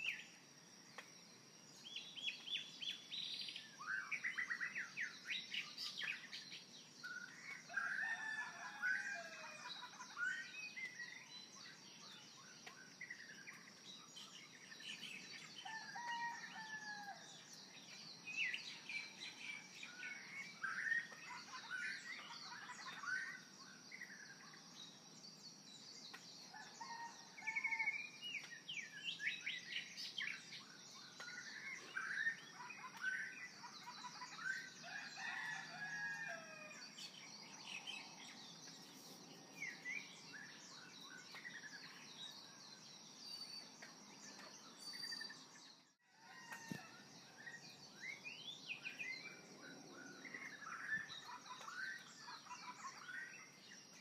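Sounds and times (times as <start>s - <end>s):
birds chirping and calling: 1.9s - 54.0s.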